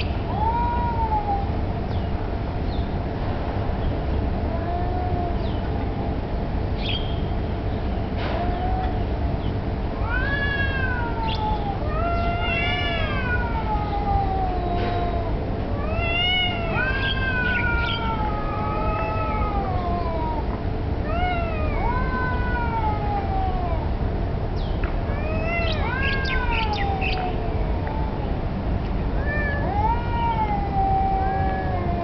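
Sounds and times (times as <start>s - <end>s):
cats yowling: 0.0s - 1.7s, 4.3s - 6.2s, 8.2s - 24.1s, 25.0s - 32.0s.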